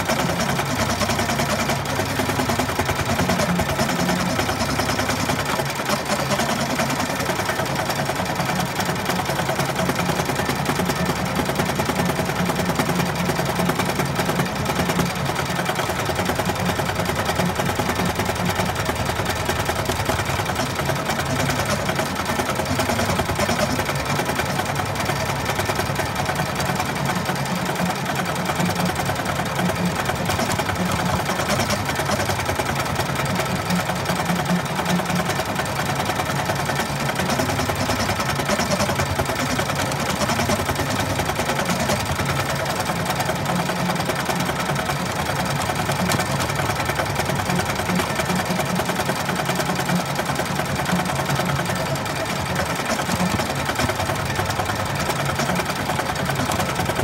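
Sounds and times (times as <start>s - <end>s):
embroidery machine stitching: 0.0s - 57.0s.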